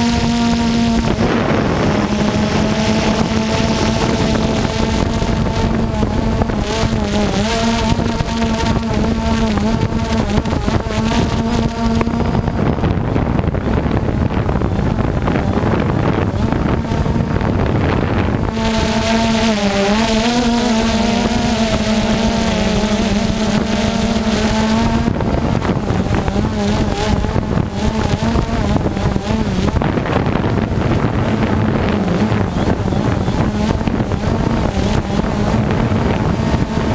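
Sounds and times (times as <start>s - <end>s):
low droning hum: 0.0s - 36.9s.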